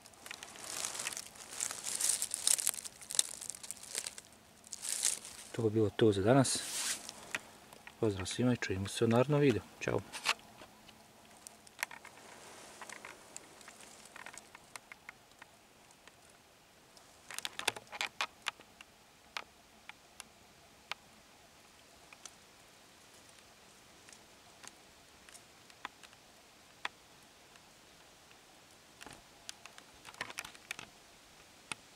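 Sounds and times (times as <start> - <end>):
faint clicks and crackles: 0.0 - 5.6, 6.9 - 21.1, 22.0 - 28.4, 29.0 - 31.9.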